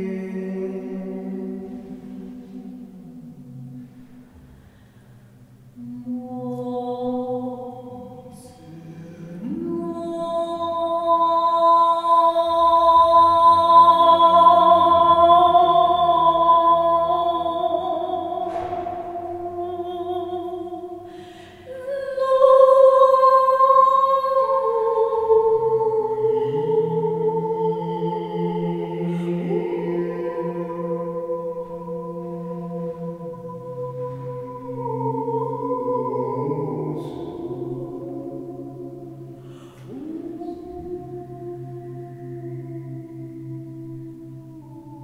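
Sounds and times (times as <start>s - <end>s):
woman singing high gliding notes: 0.0s - 4.6s, 5.8s - 45.0s
man singing low sustained notes: 5.7s - 45.0s.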